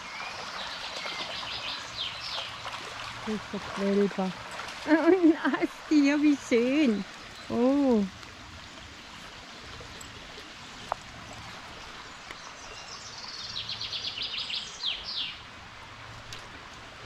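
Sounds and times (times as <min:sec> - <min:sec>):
forest brook rushing: 0:00.0 - 0:17.0.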